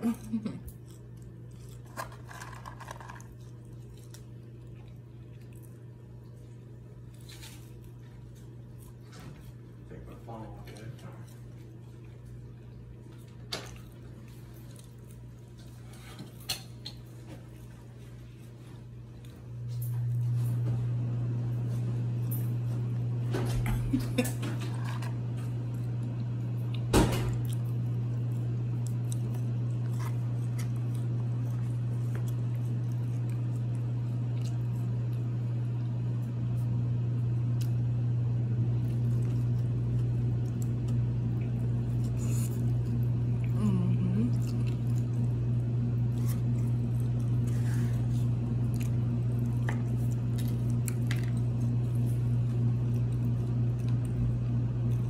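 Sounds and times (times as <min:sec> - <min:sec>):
person chewing food: 0:00.0 - 0:09.9, 0:10.5 - 0:20.3, 0:24.6 - 0:55.0
low hum: 0:00.0 - 0:55.0.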